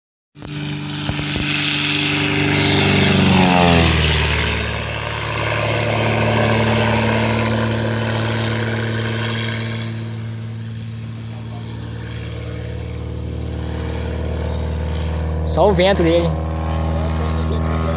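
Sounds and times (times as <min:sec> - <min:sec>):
propeller plane passing: 0:00.4 - 0:17.9.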